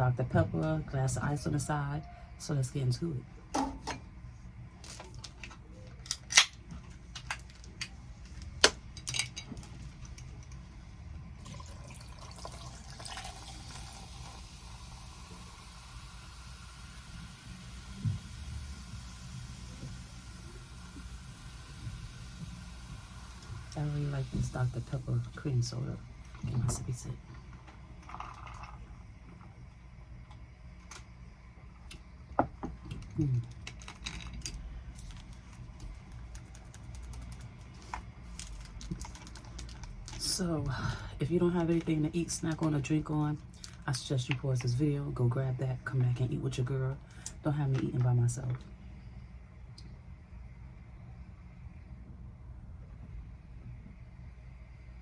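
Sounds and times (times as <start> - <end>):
soft steady hiss: 0.0 - 55.0.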